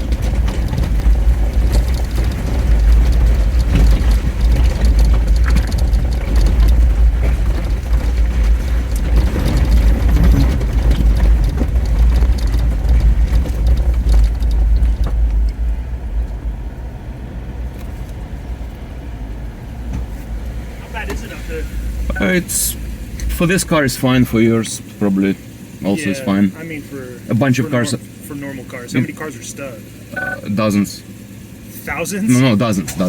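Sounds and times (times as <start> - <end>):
rough rushing noise: 0.0 - 30.0
vehicle engine and road rumble: 0.0 - 33.0.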